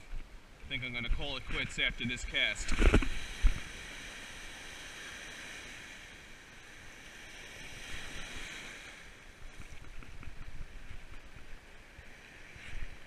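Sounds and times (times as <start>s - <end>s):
ocean surf washing onto beach: 0.7s - 13.0s.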